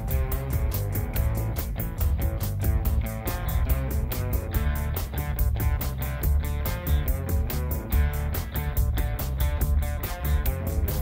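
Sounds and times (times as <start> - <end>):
guitar: 0.0 - 11.0
quick beat and bass: 0.0 - 11.0.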